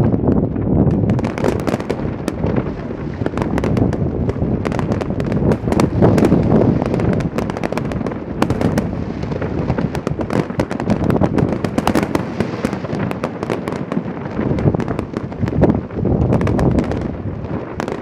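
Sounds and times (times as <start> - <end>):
fireworks crackling and popping: 0.0 - 18.0
fireworks low booms: 0.0 - 18.0.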